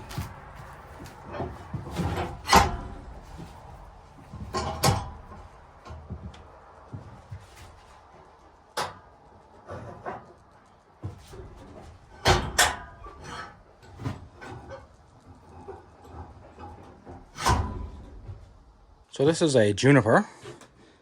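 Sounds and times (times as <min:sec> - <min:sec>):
metallic knocks and clunks: 0:00.0 - 0:07.6, 0:08.8 - 0:18.8.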